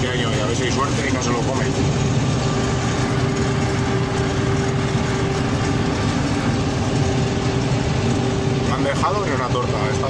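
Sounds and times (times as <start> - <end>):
farm machine engine running: 0.0 - 10.0
steady whine: 0.0 - 10.0.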